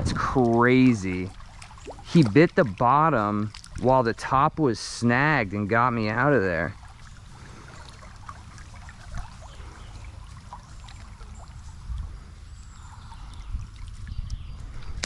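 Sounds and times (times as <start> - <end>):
river water trickling and splashing: 0.0 - 15.0.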